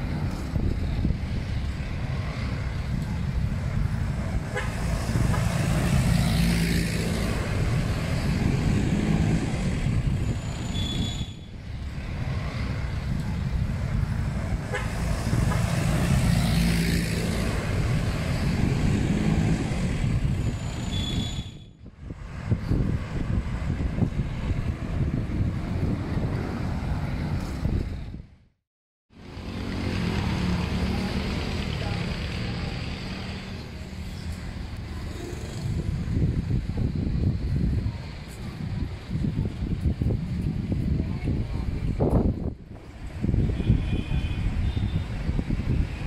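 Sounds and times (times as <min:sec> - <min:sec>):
vehicles passing: 0:00.0 - 0:46.0.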